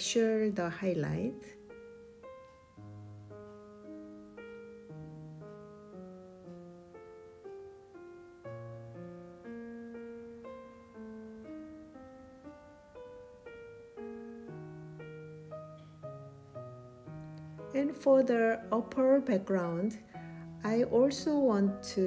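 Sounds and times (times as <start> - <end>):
gentle piano piece: 0.0 - 22.0.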